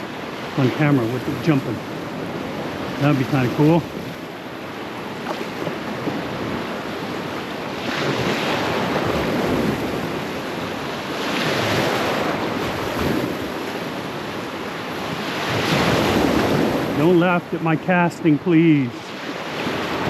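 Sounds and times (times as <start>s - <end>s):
wind buffeting microphone: 0.0s - 17.1s
surf breaking and washing: 0.0s - 20.0s.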